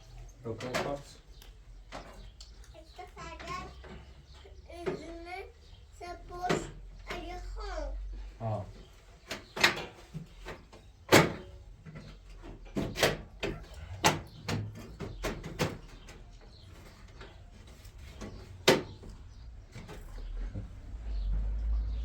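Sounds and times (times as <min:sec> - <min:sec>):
knocks and clatters of hard objects: 0:00.4 - 0:05.3, 0:06.1 - 0:07.6, 0:08.7 - 0:20.8.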